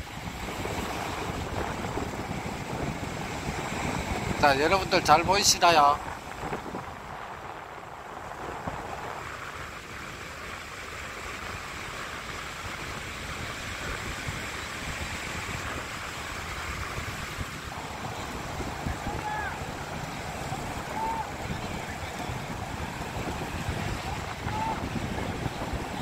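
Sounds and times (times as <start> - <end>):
wind blowing across microphone: 0.0 - 26.0.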